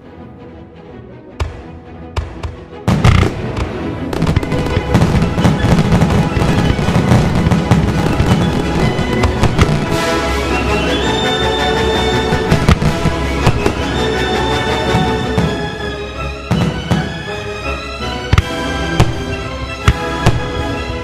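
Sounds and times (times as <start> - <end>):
music playing: 0.0 - 21.0
fireworks cracking and banging: 1.4 - 15.9, 16.5 - 17.3, 18.3 - 21.0.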